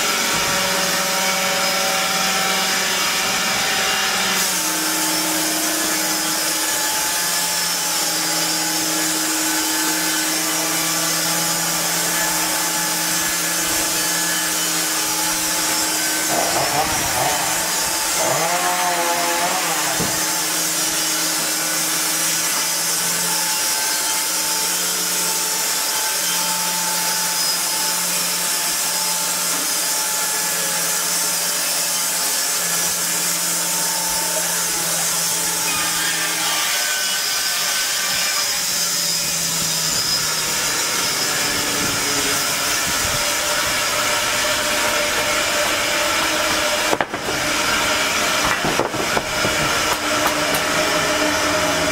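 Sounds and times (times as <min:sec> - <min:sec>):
band sawmill humming: 0:00.0 - 0:25.9, 0:30.9 - 0:51.9
saw blade cutting wood: 0:00.0 - 0:51.9.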